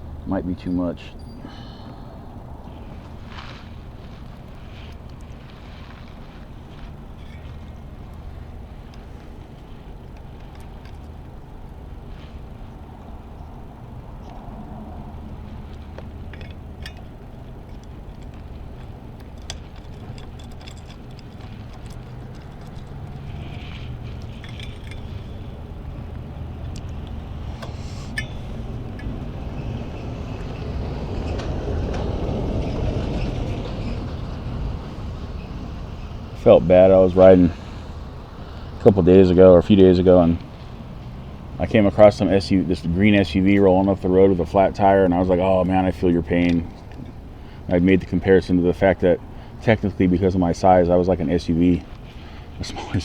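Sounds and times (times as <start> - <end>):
hand tools clinking on bolts: 0.4 - 32.1, 40.1 - 53.0.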